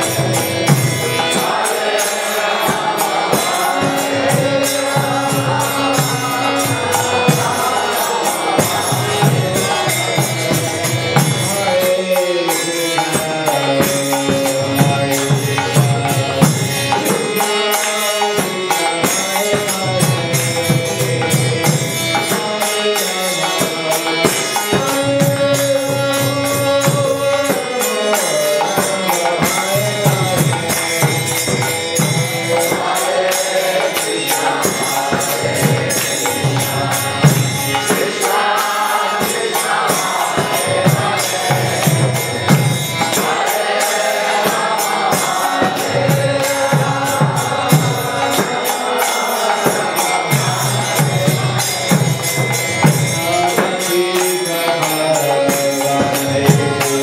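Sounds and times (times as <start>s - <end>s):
harmonium chords: 0.0s - 57.0s
man singing a devotional chant: 0.0s - 57.0s
steady percussive beat: 0.0s - 57.0s.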